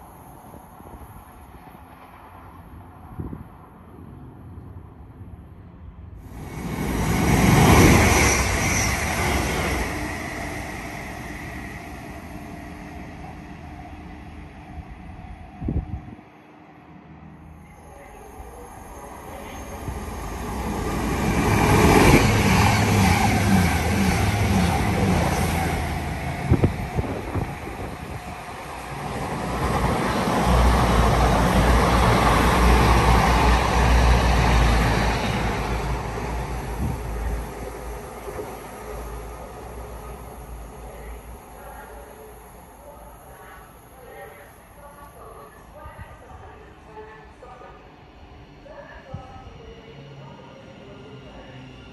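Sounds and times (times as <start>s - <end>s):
train rumbling on rails: 0.0s - 51.9s.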